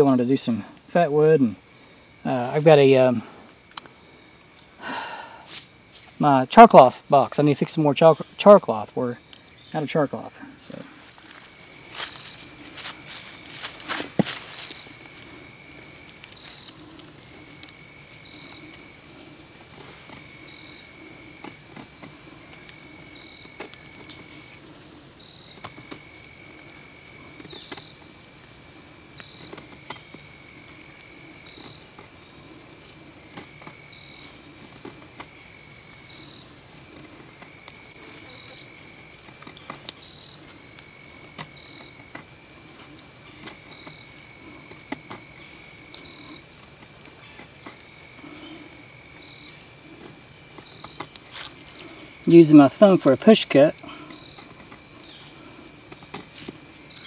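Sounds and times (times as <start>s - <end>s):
insect chirp: 0.0s - 57.0s
insects trilling: 0.0s - 57.0s.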